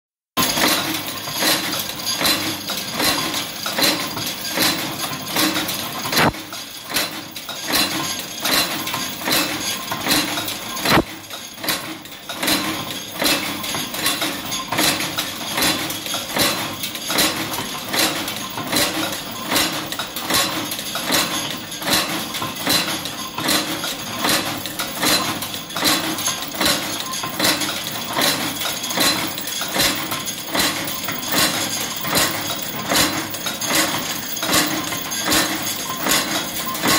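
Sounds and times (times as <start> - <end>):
machine ram clanking: 0.4 - 36.9.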